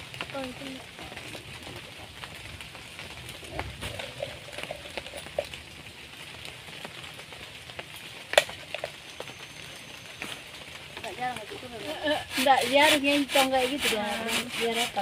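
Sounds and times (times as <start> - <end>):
light rain patter: 0.0 - 15.0.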